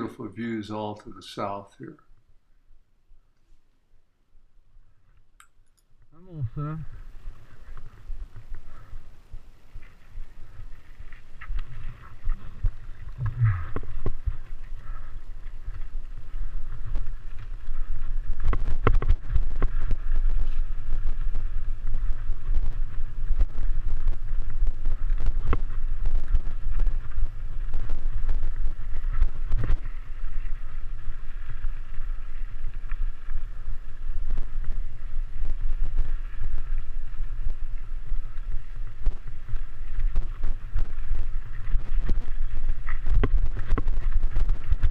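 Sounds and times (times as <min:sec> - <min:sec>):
wind and ride rumble: 0:06.2 - 0:44.9.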